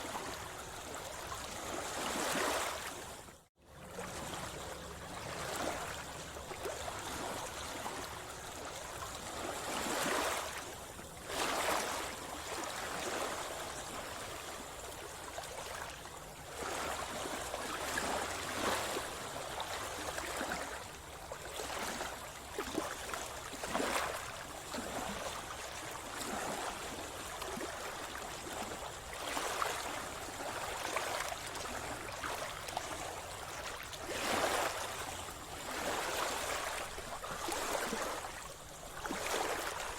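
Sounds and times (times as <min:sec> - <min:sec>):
sea water splashing around swimmer: 0:03.9 - 0:39.9.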